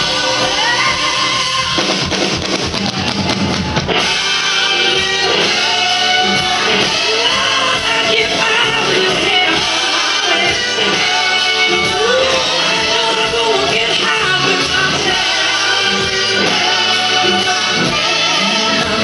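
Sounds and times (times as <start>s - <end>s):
woman singing: 0.0s - 2.0s, 4.4s - 19.0s
busy drumming: 0.0s - 19.0s
live rock band playing: 0.0s - 19.0s.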